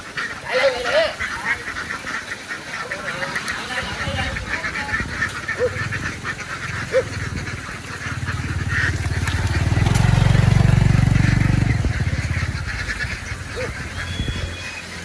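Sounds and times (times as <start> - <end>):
ducks quacking: 0.0 - 15.0
engine pulsing: 2.7 - 15.0.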